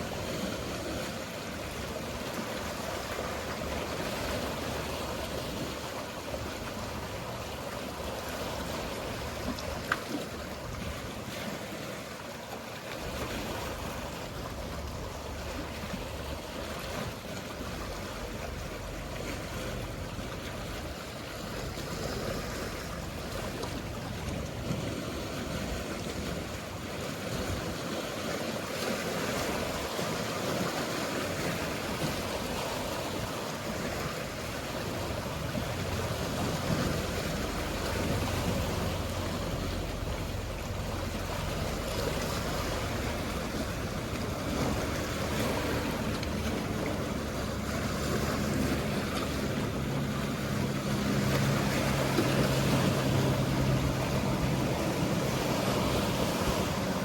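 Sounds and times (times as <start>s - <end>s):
motorboat engine drone: 0.0s - 57.0s
sea waves washing: 0.0s - 57.0s.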